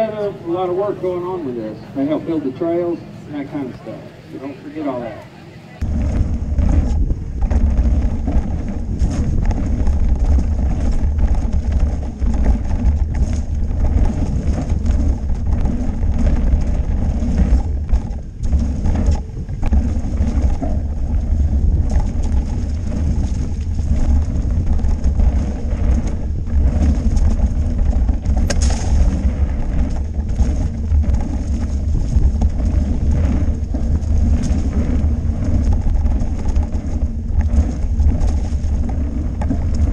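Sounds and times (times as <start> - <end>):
wind buffeting microphone: 0.0 - 39.9
bike rattling over rough trail: 5.8 - 39.9.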